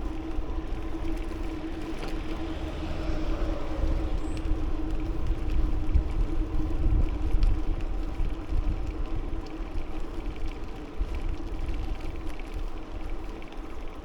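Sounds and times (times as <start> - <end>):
bicycle tyre and road noise: 0.0 - 14.0
wind rumbling on microphone: 0.0 - 14.0.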